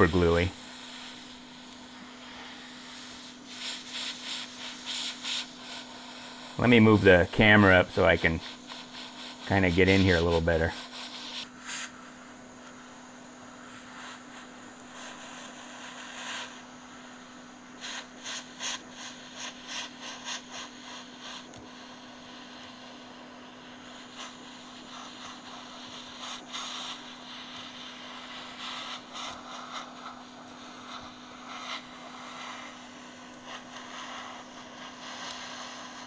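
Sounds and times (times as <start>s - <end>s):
hot air blower hissing: 0.0s - 36.0s.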